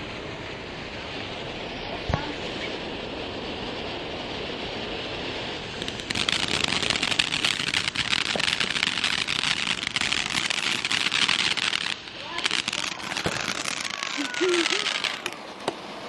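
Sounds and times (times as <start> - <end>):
firework hissing and crackling: 0.0 - 16.0.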